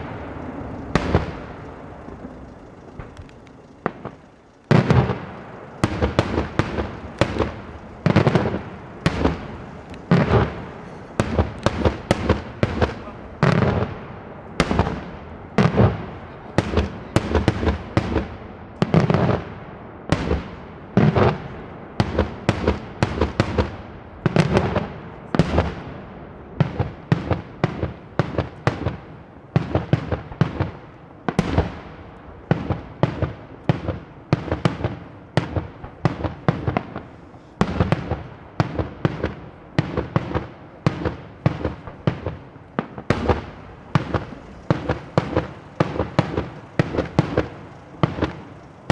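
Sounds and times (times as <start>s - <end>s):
fireworks bursts and bangs: 0.0s - 48.9s.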